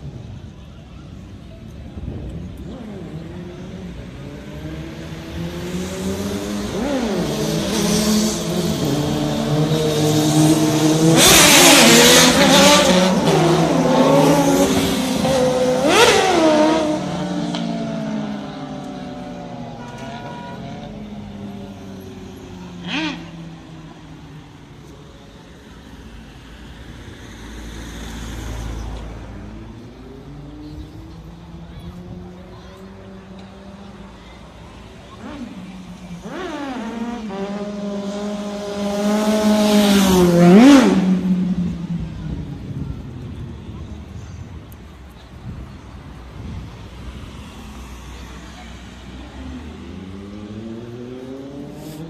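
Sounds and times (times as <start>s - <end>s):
motorcycle engines revving and passing: 0.0s - 52.0s.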